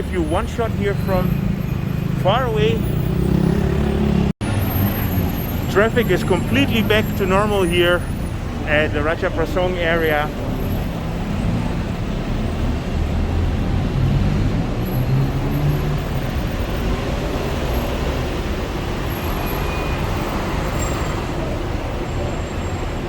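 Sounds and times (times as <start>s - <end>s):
car and bus engines: 0.0s - 23.0s
tyres on road: 0.0s - 23.0s.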